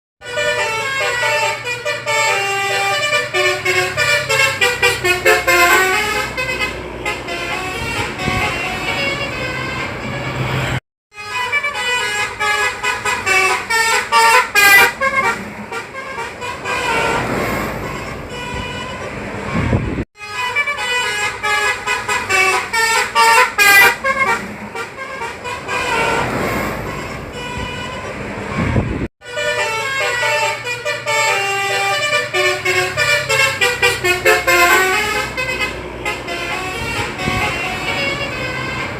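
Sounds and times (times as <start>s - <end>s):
musical bus air horn: 0.2s - 38.9s
road noise: 0.2s - 38.9s.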